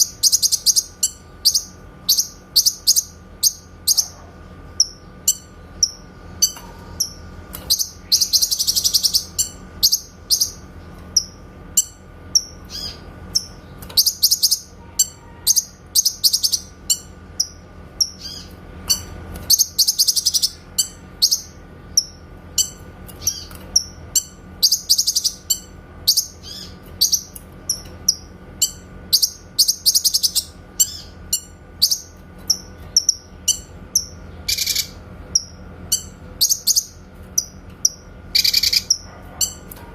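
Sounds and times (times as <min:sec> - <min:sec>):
bird rapid trills: 0:04.8 - 0:39.7.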